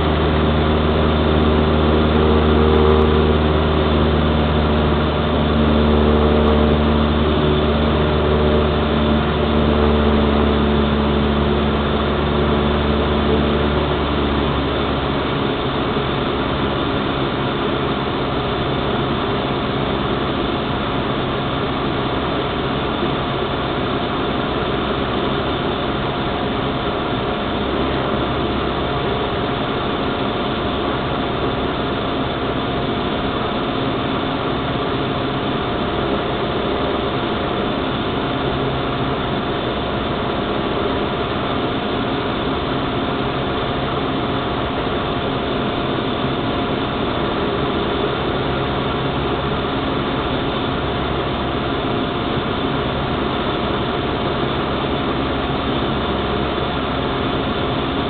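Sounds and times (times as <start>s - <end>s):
propeller plane engine in cabin: 0.0s - 58.0s.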